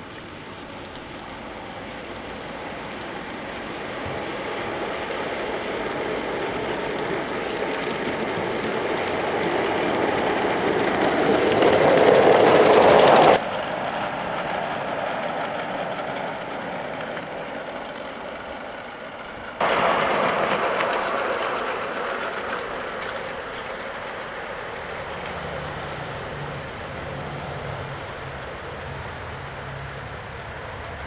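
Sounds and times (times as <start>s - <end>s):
steam locomotive exhaust: 0.0s - 31.0s
wheels on rails: 0.0s - 31.0s.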